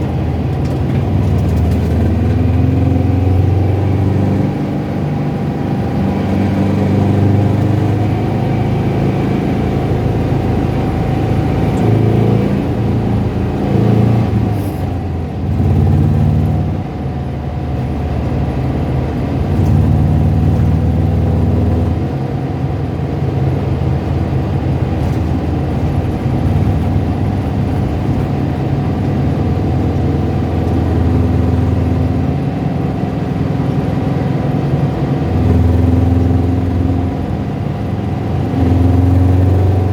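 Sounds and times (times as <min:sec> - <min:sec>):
car engine revving: 0:00.0 - 0:39.9
engine rattling and tapping: 0:00.0 - 0:39.9.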